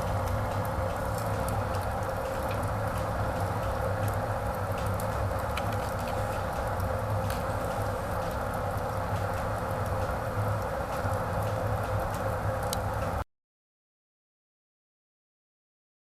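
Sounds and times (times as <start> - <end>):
fire crackles: 0.0 - 13.2
wood fire rushing flame: 0.0 - 13.2.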